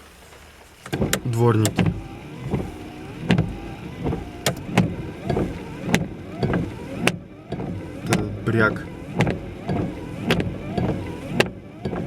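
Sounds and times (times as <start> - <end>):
wiper blades knocking: 0.8 - 12.0
wiper motor whine: 0.9 - 12.0.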